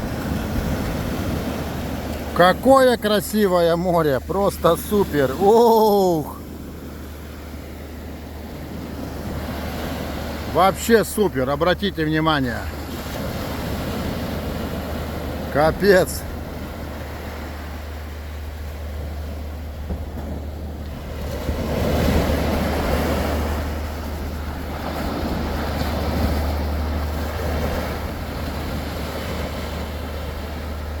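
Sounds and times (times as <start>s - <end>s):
sea waves washing: 0.0s - 31.0s.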